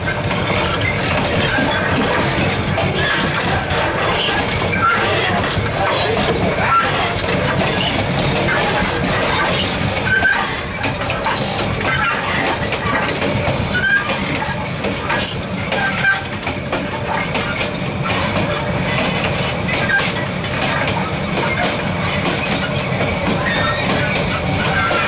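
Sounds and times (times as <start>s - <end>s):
train wheels rumbling on track: 0.0s - 25.0s
wheel and coupling squeals: 0.0s - 25.0s.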